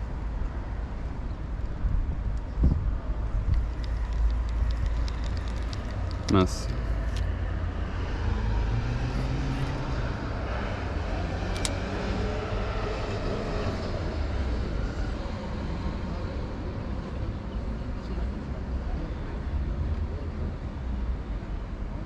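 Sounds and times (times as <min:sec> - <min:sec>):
low town rumble: 0:00.0 - 0:22.0.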